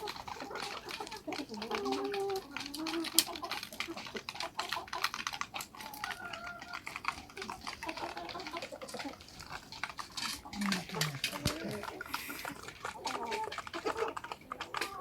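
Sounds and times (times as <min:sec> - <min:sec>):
chicken calls: 0:00.0 - 0:15.0
chickens pecking at feed: 0:00.0 - 0:15.0.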